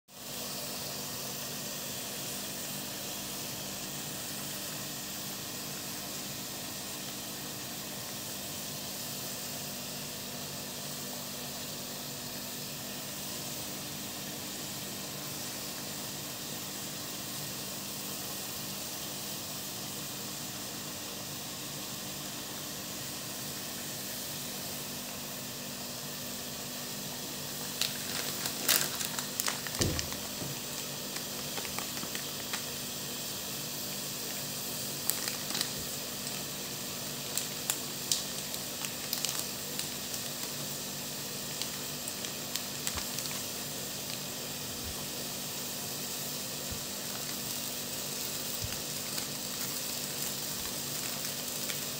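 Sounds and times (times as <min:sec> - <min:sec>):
food frying in hot pan: 0:00.1 - 0:51.9
steady hiss with low hum: 0:00.1 - 0:51.9.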